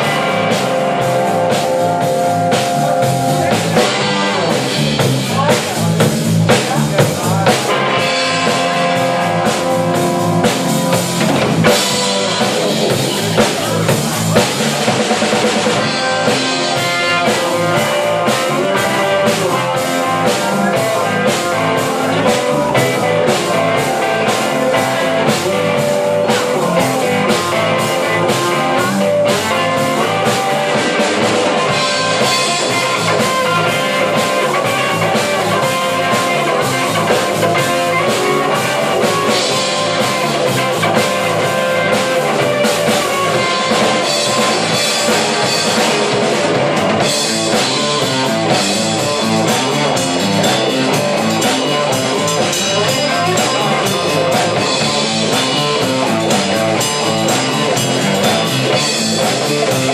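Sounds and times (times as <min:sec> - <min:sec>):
drum kit beat: 0:00.0 - 0:59.9
electric bass: 0:00.0 - 0:59.9
electric guitar: 0:00.0 - 0:59.9.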